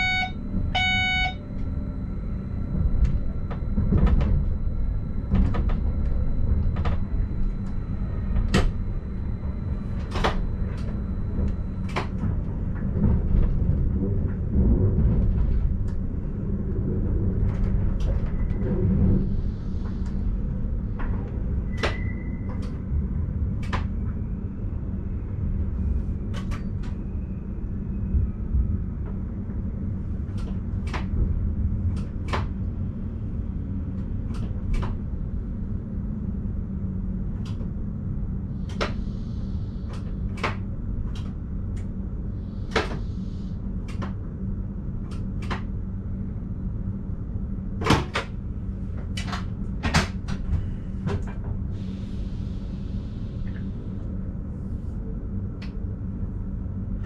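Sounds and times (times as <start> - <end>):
train low rumble: 0.0 - 57.0.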